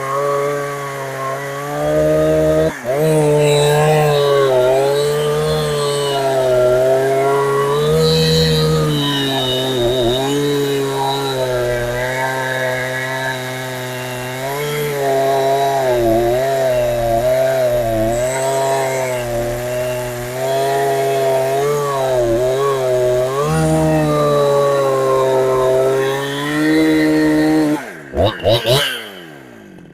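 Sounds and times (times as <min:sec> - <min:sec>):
chainsaw engine cutting wood: 0:00.0 - 0:29.9.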